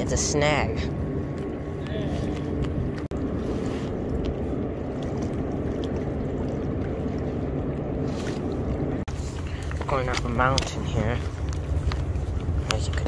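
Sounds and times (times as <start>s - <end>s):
river water lapping on rocks: 0.9s - 13.0s.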